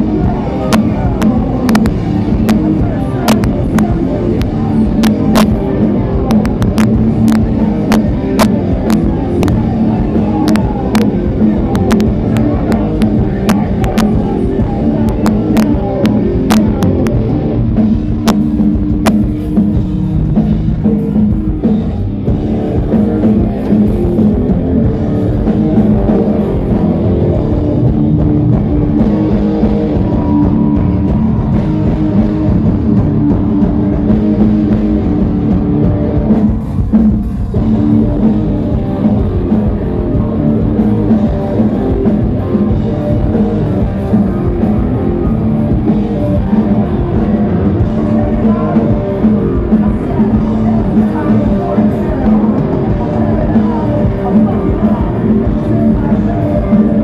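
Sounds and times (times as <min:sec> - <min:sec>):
industrial metal band playing live: 0:00.0 - 0:57.0.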